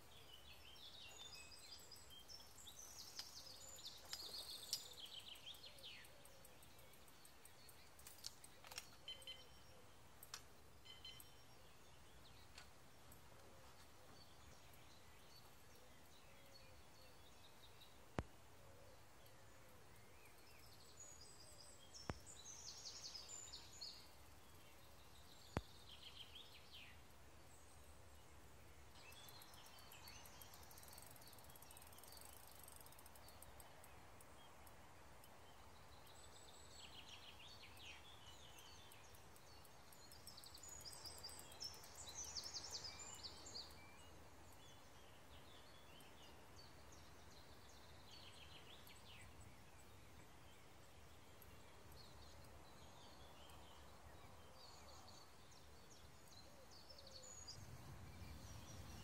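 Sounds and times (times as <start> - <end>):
faint birdsong chirps: 0.0 - 59.0.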